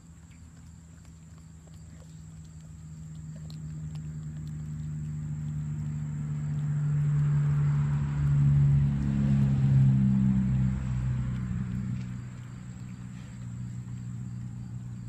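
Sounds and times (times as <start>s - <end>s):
cat chewing: 0.0s - 9.4s, 10.0s - 15.0s
vehicle passing: 1.4s - 15.0s.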